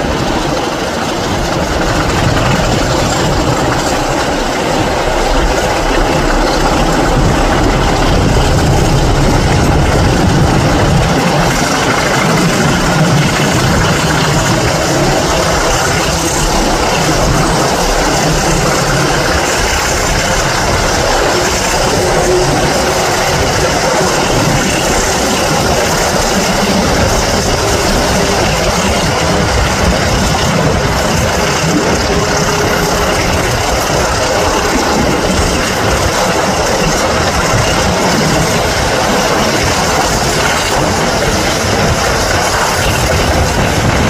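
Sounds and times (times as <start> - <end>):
wheels on rail: 0.0 - 44.0.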